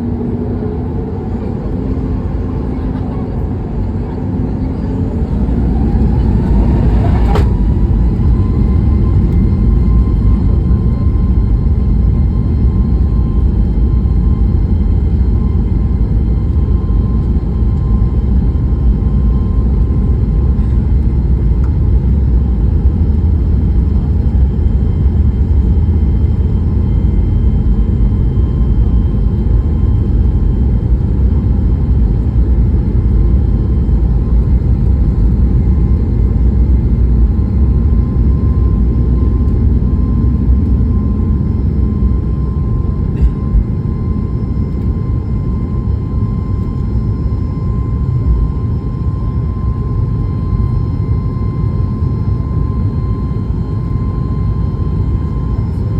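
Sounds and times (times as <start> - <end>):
jet engines rumbling and whining: 0.0 - 55.9.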